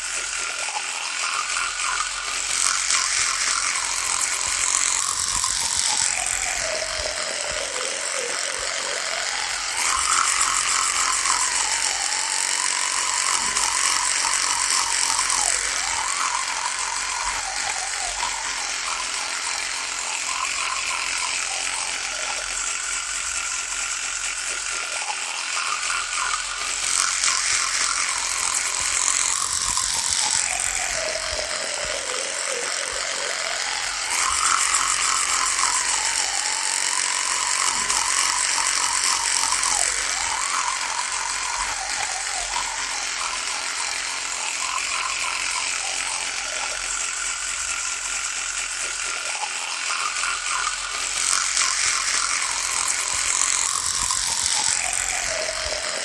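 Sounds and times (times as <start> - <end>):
electric toothbrush buzzing: 0.0 - 56.0.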